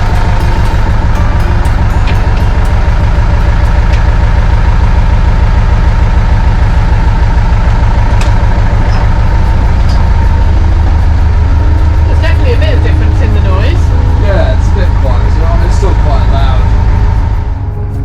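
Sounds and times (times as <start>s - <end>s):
boat engine idling: 0.0s - 18.0s
faint steady whine: 0.0s - 18.0s.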